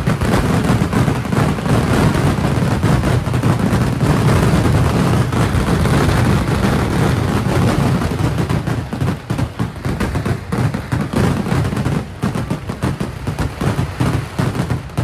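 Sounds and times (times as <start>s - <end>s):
firecracker blasts rumbling: 0.0s - 15.0s.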